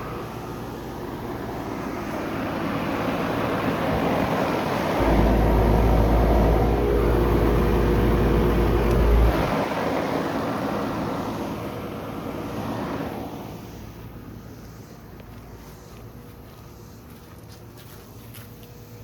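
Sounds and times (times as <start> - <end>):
air conditioner fan rushing: 0.0 - 19.0.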